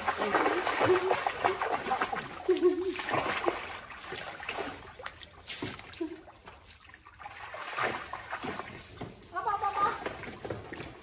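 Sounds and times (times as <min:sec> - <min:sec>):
water splashing and trickling: 0:00.0 - 0:11.0
water streaming off animal: 0:00.0 - 0:11.0.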